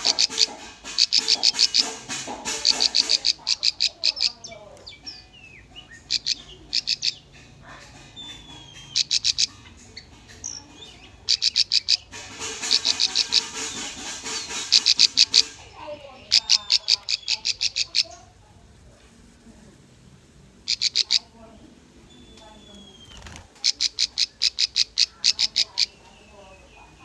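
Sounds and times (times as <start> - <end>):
bird chips high-pitched: 0.0 - 18.3, 20.6 - 21.4, 22.2 - 27.0.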